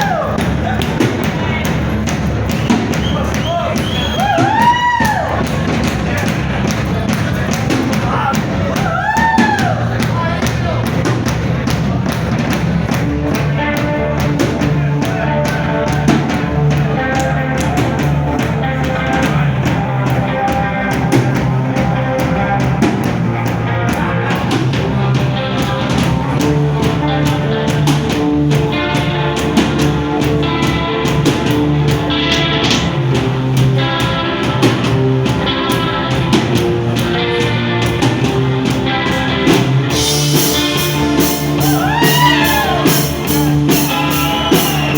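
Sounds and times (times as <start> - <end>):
bass guitar: 0.0 - 44.9
drum kit beat: 0.0 - 44.9
guitar: 0.0 - 44.9.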